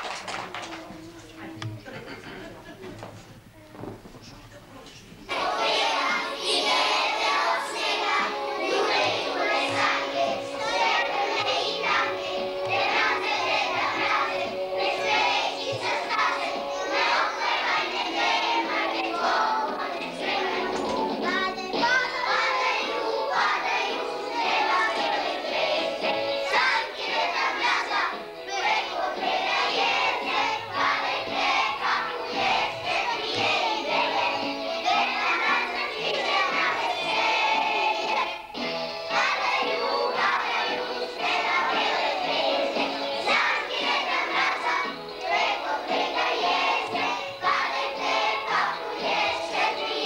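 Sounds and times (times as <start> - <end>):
children singing in chorus: 5.3 - 50.0.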